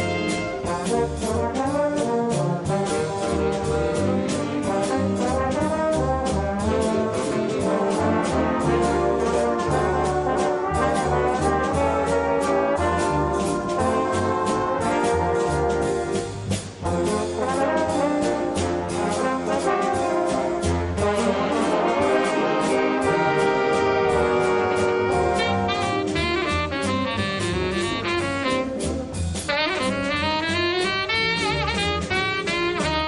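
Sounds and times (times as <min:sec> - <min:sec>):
big band playing a waltz: 0:00.0 - 0:33.0
steady drum beat: 0:00.0 - 0:33.0
trombones: 0:00.0 - 0:33.0.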